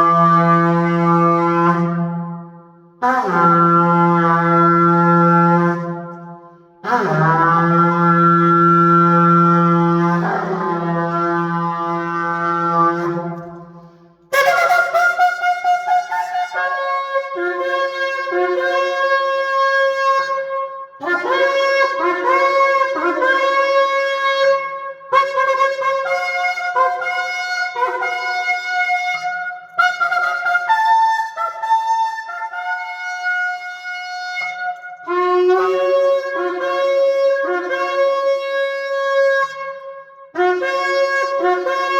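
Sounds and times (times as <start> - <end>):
shofar horn blowing: 0.0 - 41.9.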